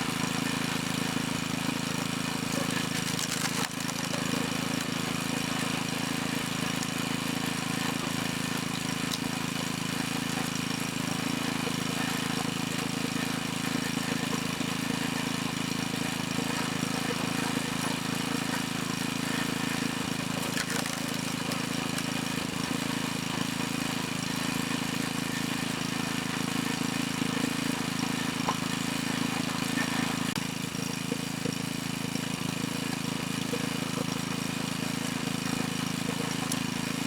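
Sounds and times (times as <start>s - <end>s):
log splitter engine running: 0.0s - 37.0s.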